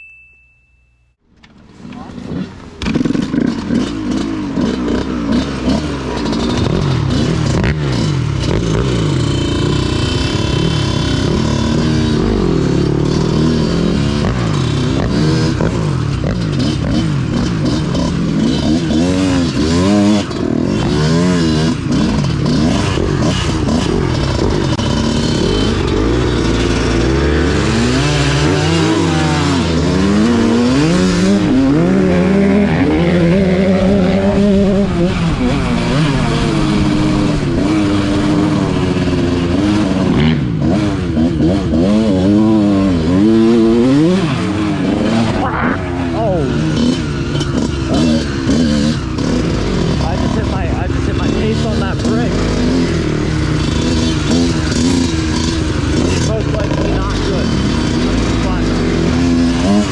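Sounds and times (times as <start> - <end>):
dirt bike engine revving: 1.5 - 59.9.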